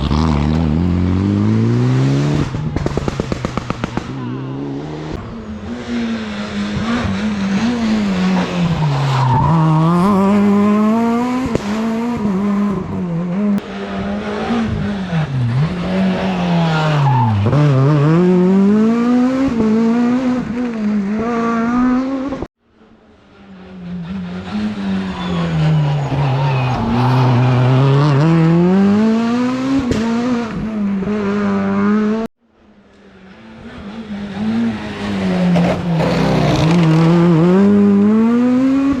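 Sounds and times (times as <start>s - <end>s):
rally car engines revving: 0.0s - 32.3s, 32.9s - 39.0s.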